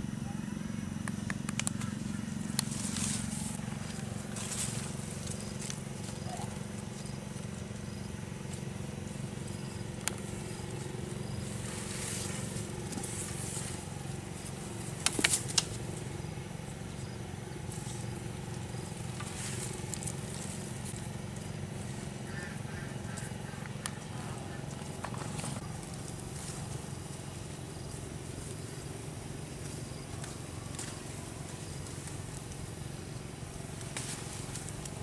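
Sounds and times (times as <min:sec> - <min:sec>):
steady low hum: 0:00.0 - 0:35.0
rustling in dirt and leaves: 0:01.4 - 0:35.0.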